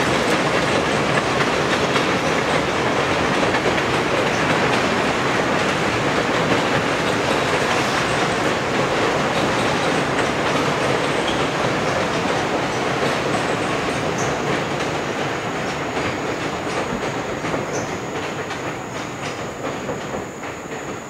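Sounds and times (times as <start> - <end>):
train rumbling over a steel bridge: 0.0 - 21.0
wheels clicking over rail joints: 0.0 - 21.0.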